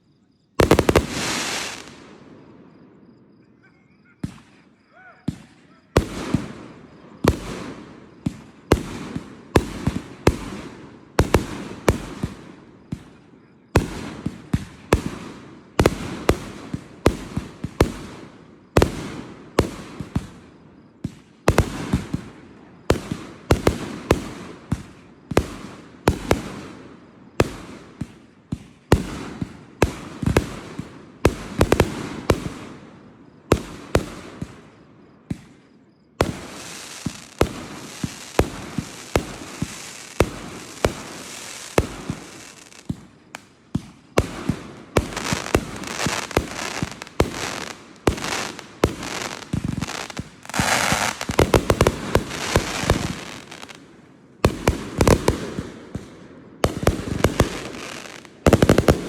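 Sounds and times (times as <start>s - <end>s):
fireworks booming and cracking: 0.5s - 2.8s, 5.2s - 59.0s.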